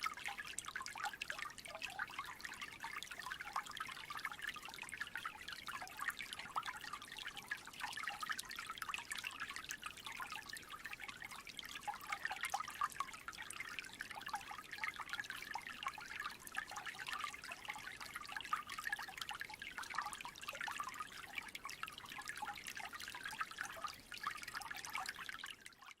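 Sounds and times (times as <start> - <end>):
creek trickling: 0.0 - 26.0.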